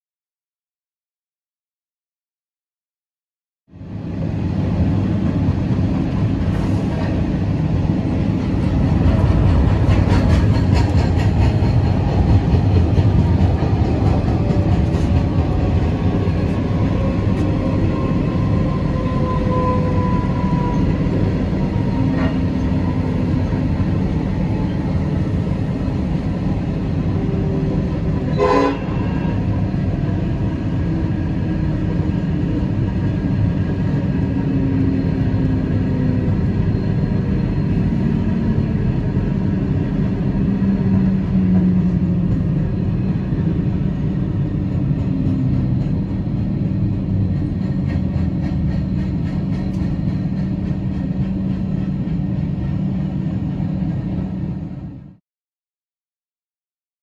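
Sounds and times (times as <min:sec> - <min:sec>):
diesel locomotive engine drone: 0:03.7 - 0:55.2
wheels rumbling on rails: 0:03.7 - 0:55.2.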